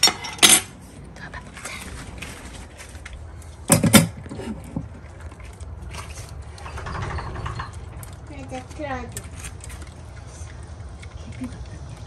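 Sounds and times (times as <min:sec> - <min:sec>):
dog eating kibble: 0:00.8 - 0:12.0.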